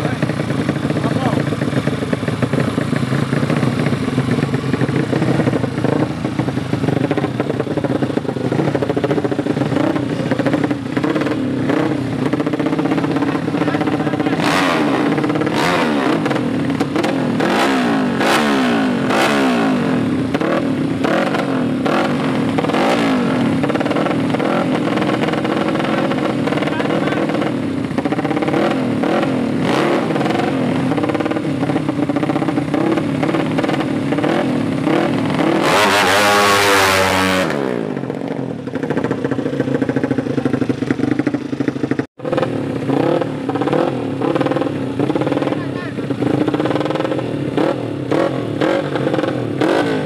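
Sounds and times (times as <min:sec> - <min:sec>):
motorcycle engines revving: 0:00.0 - 0:50.0.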